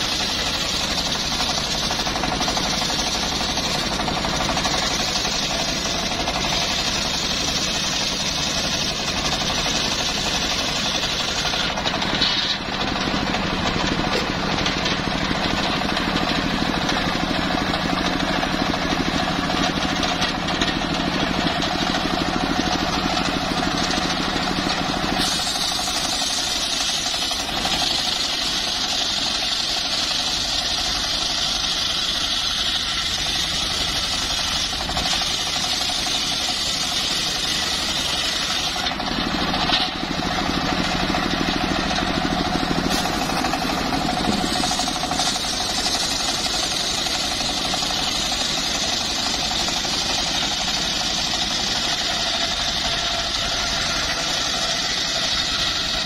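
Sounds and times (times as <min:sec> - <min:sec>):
engine running under load: 0:00.0 - 0:56.0
saw blade cutting wood: 0:00.0 - 0:56.0.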